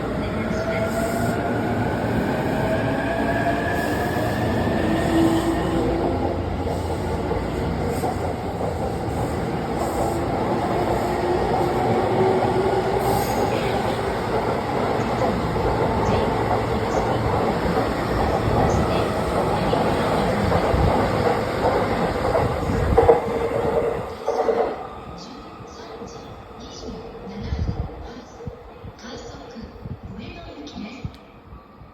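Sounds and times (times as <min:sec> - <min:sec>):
electric train wheels rumbling on rail: 0:00.0 - 0:31.3.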